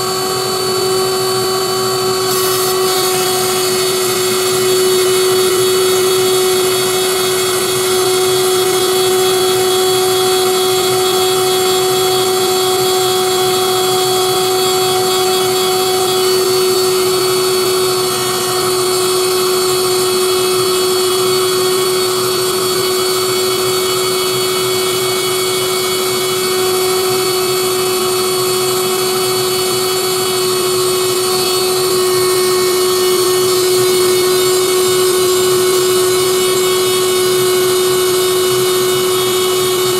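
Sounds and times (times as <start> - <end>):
spindle motor whine: 0.0 - 39.9.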